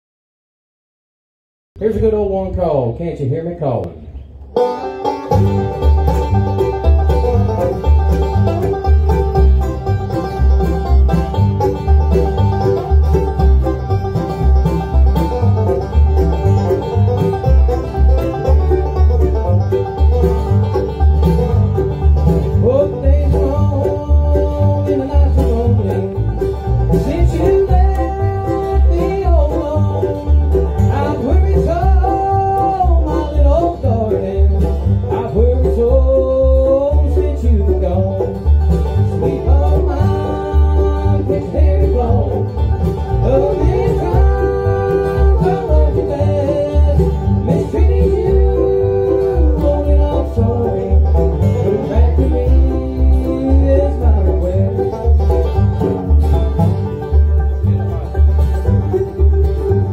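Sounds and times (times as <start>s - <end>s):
mandolin: 3.8s - 59.9s
acoustic guitar: 4.2s - 59.9s
banjo: 4.4s - 59.9s
upright bass pulse: 5.1s - 59.9s.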